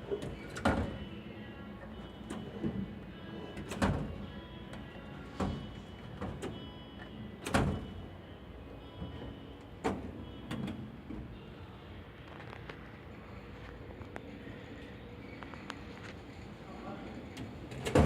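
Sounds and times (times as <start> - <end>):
background music: 0.0 - 17.9.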